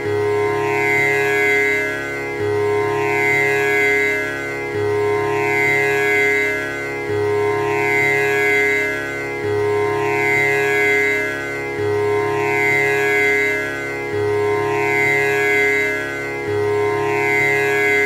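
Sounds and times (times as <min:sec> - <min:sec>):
tanpura drone: 0:00.0 - 0:18.0.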